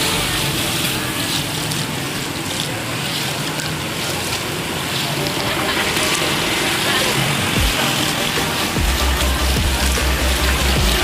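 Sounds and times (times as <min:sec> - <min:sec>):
faint engine hum: 0:00.0 - 0:11.0
vehicle driving through water: 0:00.0 - 0:11.0.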